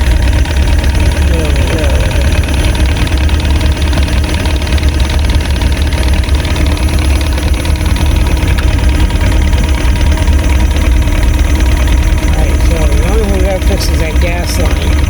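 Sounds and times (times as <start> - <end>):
outboard motor idling: 0.0 - 15.0.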